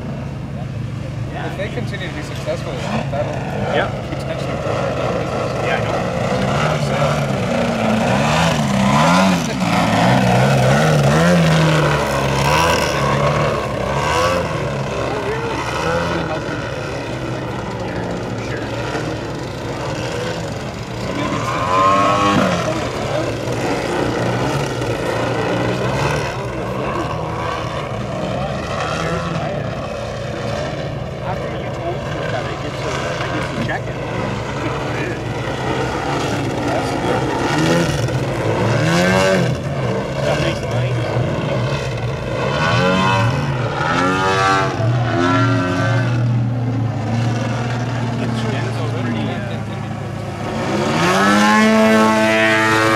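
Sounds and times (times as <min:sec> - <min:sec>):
model airplane engine running: 0:00.0 - 0:52.9.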